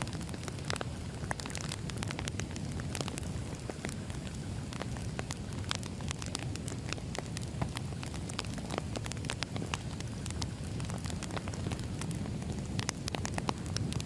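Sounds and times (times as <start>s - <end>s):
firewood crackling and popping: 0.0s - 14.0s.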